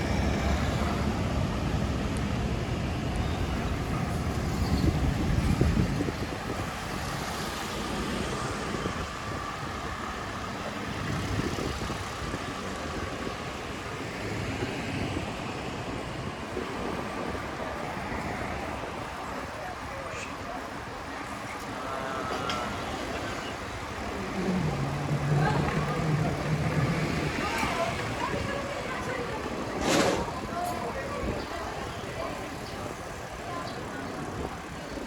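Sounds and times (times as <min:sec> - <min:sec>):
road traffic noise: 0:00.0 - 0:35.0.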